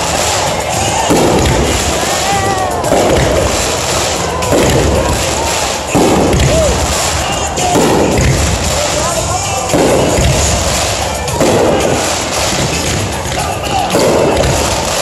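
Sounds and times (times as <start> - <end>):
fireworks crackling and booming: 0.0 - 15.0
loud firework bursts: 0.0 - 15.0.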